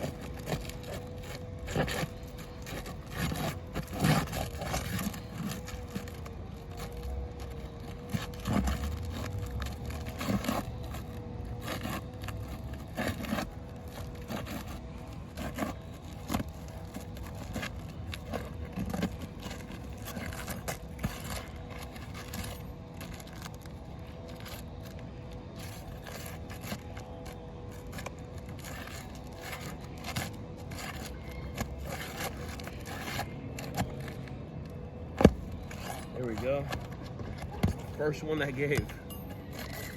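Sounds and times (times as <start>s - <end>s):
pry tool scraping shingles: 0.0s - 39.9s.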